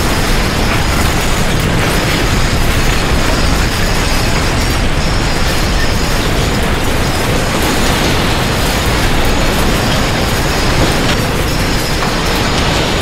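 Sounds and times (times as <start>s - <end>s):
earthquake rumbling and rattling: 0.0s - 13.0s.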